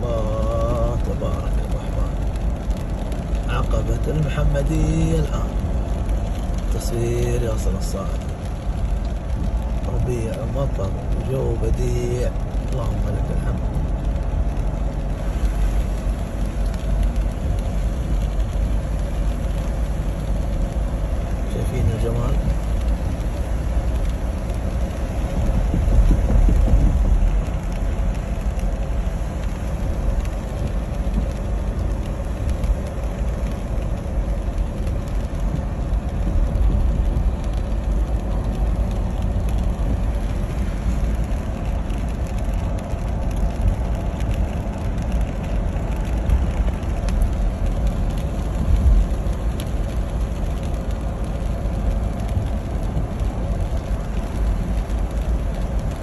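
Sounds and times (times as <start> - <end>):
car driving on wet road: 0.0 - 56.0.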